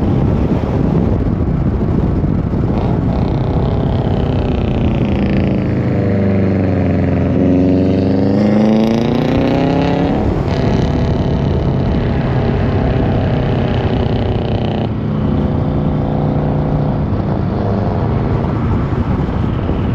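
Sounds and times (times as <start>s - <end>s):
car engine revving: 1.9s - 19.9s.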